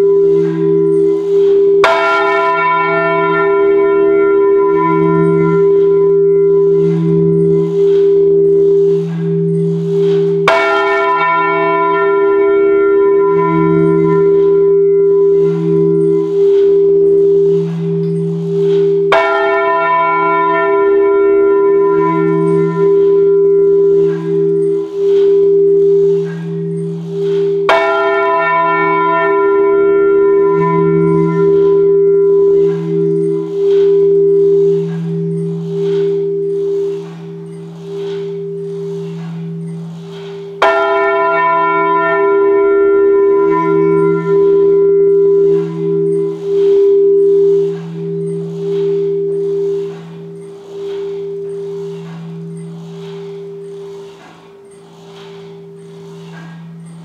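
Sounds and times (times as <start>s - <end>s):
bell clapper strikes: 0.0s - 57.0s
church bells ringing in peal: 0.0s - 57.0s.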